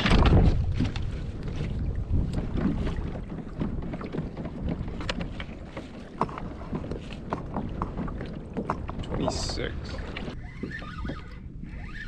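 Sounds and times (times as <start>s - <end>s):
waves lapping on kayak hull: 0.0s - 12.0s
wind buffeting microphone: 0.0s - 12.0s.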